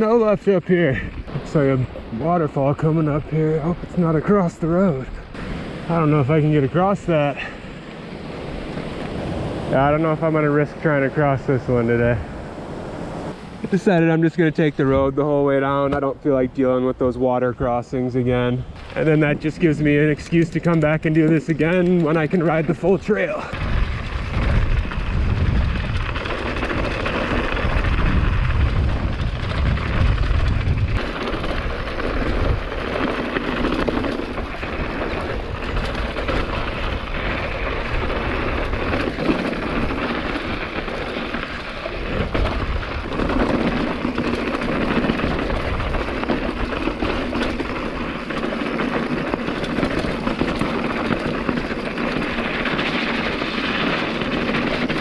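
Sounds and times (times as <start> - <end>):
bike rattling on rough dirt road: 0.0 - 12.3, 17.7 - 55.0
wind buffeting microphone: 0.0 - 55.0.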